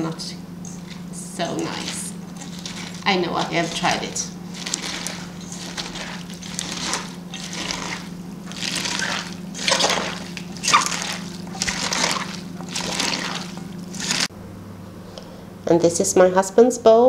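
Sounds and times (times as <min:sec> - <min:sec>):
vegetables squelching in brine: 0:00.0 - 0:14.3.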